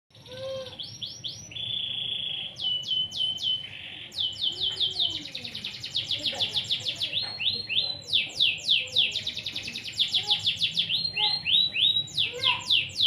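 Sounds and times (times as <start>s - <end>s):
canary singing: 0.1s - 13.0s.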